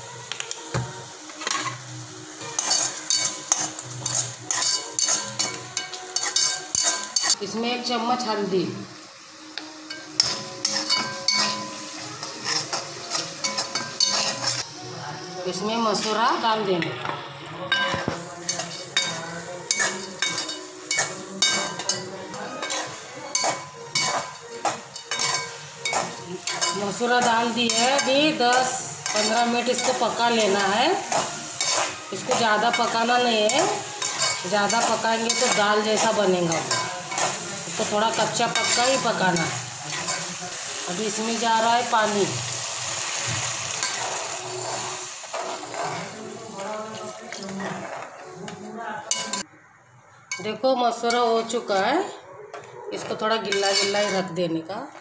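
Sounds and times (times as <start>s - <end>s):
oil sizzling softly: 0.0s - 16.5s, 18.0s - 49.4s
metal spatula scraping a pan: 1.3s - 7.4s, 9.9s - 14.7s, 17.7s - 49.4s, 53.0s - 54.4s.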